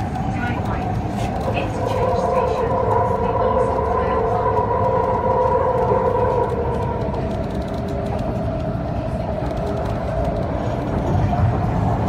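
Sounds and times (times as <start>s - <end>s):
train low rumble: 0.0s - 12.0s
train whine: 0.0s - 12.0s.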